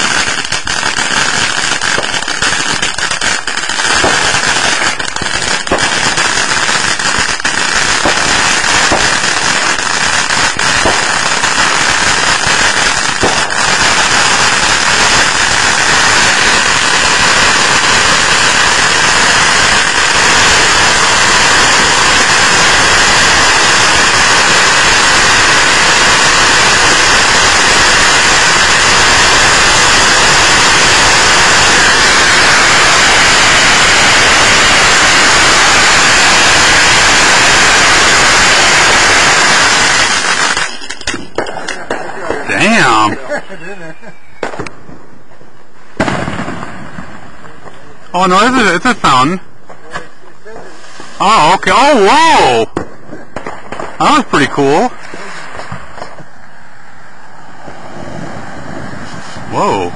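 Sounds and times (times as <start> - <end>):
firework crackles: 0.0 - 59.9
firework fountain hissing: 0.0 - 59.9.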